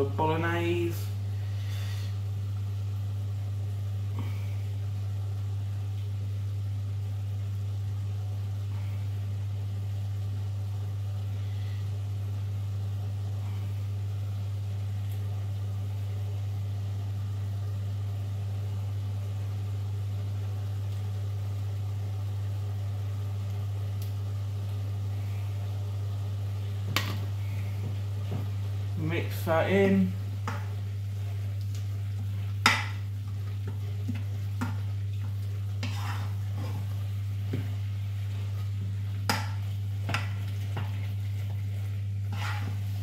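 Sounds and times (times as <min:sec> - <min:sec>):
extractor fan humming: 0:00.0 - 0:43.0.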